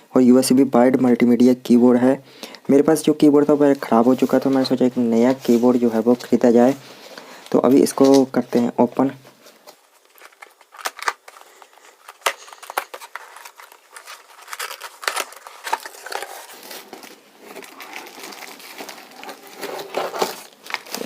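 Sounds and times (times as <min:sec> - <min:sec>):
cardboard packaging rustling: 0:03.2 - 0:21.0.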